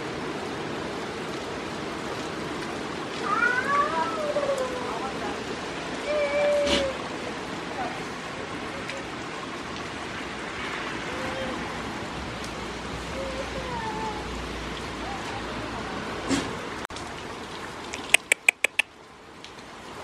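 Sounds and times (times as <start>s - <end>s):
rain on wet paving: 0.0s - 20.0s.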